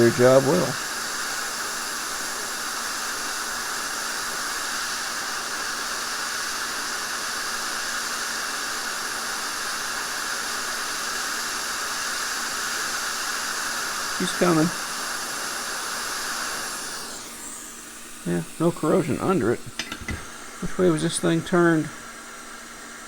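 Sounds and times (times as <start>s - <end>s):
hot air blower hissing: 0.0s - 23.0s.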